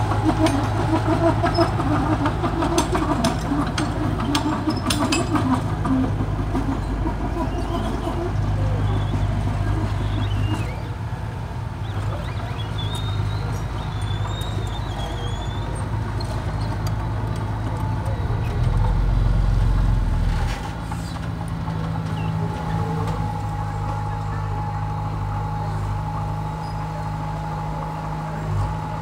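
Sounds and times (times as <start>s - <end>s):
diesel engine under load: 0.0s - 29.0s.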